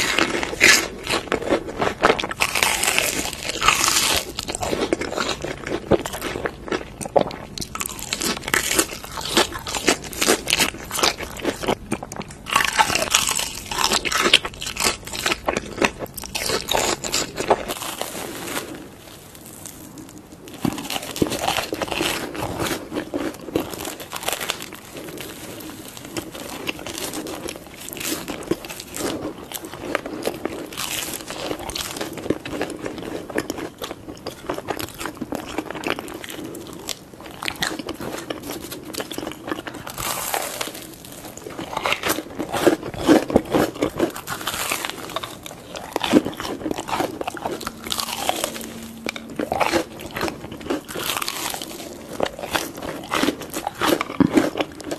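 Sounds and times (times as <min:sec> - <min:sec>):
chewing: 0:00.0 - 0:18.8, 0:20.0 - 0:54.9
crunchy bites: 0:00.0 - 0:19.0, 0:19.6 - 0:54.9.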